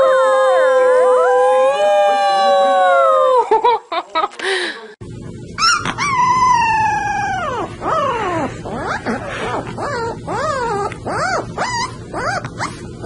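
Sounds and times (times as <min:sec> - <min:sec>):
puppies howling: 0:00.0 - 0:03.6, 0:05.6 - 0:13.0.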